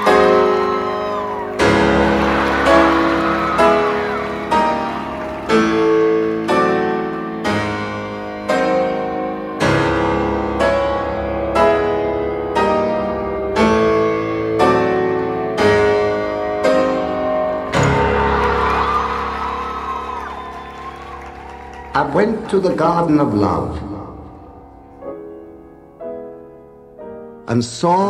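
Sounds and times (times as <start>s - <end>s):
slow piano chords over loudspeakers: 0.0s - 28.0s.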